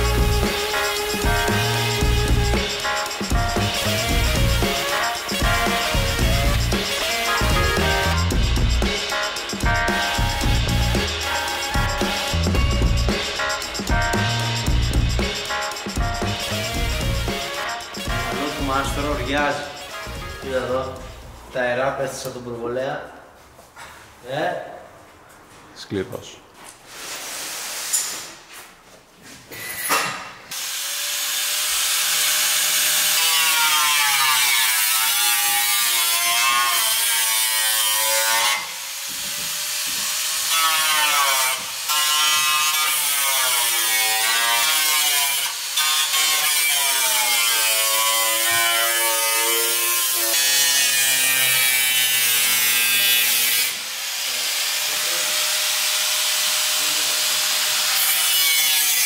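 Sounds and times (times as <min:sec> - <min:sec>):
angle grinder cutting sheet metal: 0:00.0 - 0:21.0, 0:29.6 - 0:59.0.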